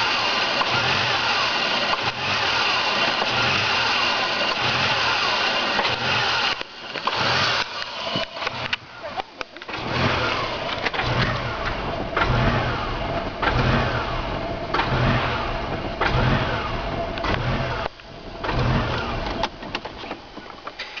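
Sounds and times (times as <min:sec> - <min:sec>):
car engine idling unevenly: 0:00.0 - 0:21.0.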